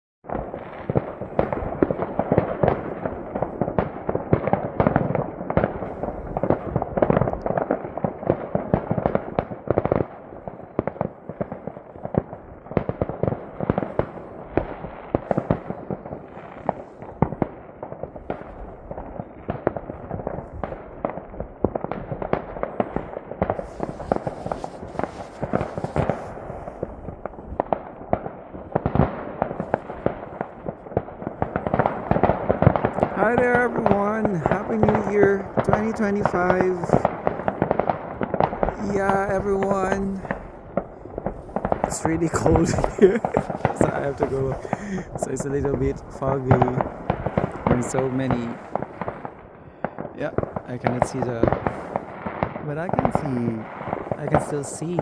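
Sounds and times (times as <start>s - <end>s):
fireworks crackling and banging: 0.3s - 55.0s.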